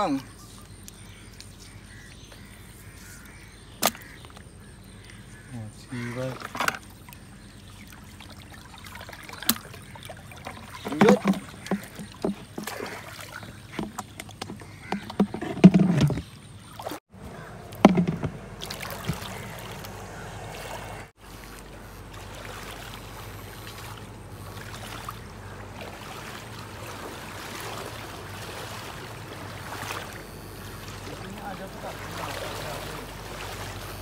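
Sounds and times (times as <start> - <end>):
knocks and splashes: 3.8 - 4.5, 6.2 - 7.2, 7.8 - 34.0.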